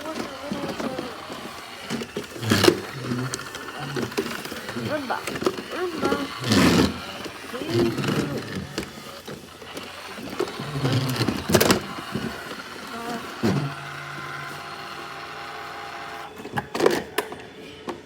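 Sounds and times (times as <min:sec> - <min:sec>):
robot vacuum motors whirring: 0:00.0 - 0:17.4.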